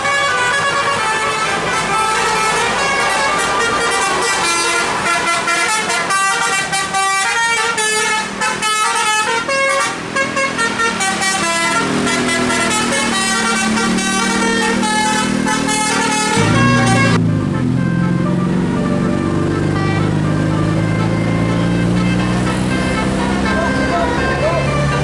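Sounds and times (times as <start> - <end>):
musical bus air horn: 0.0 - 25.0.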